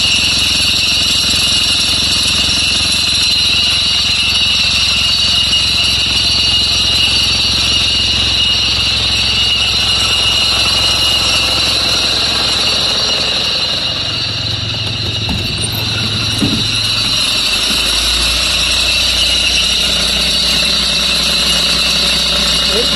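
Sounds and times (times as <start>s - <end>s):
bus engine idling: 0.0s - 22.9s
constant high-pitched tone: 0.0s - 22.9s.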